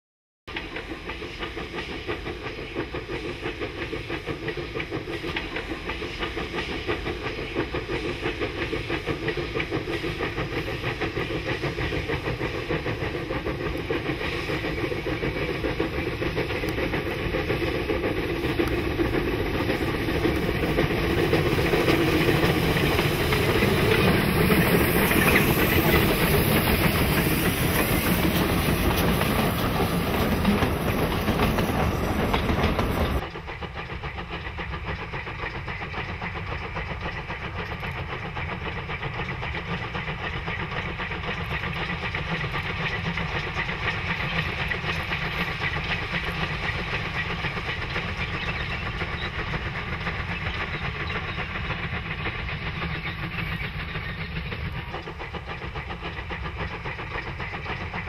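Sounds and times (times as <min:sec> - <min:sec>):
distant steam locomotive running: 0:00.5 - 0:58.0
train wheels clattering on rails: 0:00.5 - 0:58.0.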